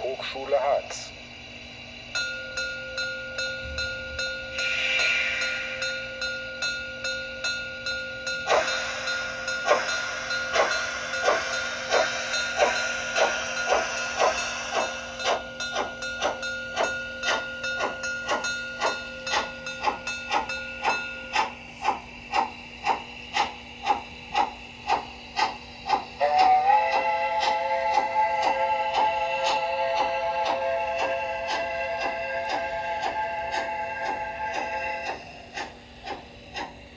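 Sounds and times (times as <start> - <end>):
steam locomotive chuffing: 0.0 - 36.9
steam hiss: 3.5 - 7.6, 8.2 - 36.9.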